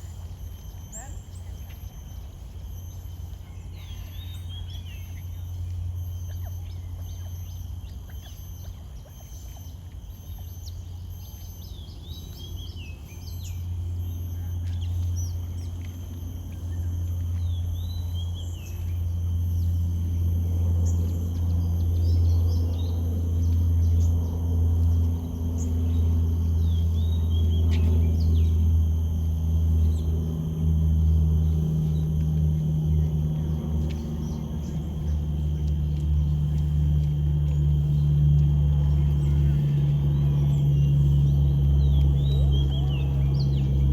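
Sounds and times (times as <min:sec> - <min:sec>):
birds chirping: 0:00.0 - 0:43.9
steady low hum: 0:00.0 - 0:43.9.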